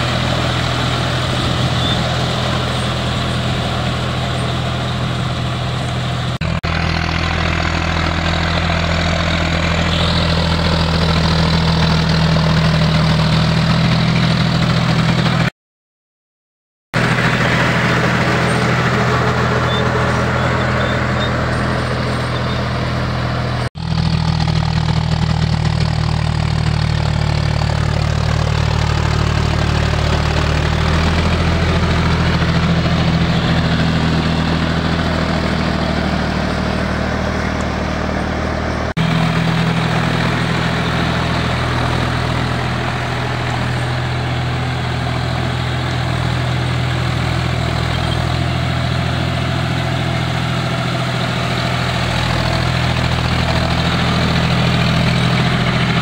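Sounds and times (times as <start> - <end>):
tractor diesel engine droning: 0.0 - 15.5, 17.0 - 56.0.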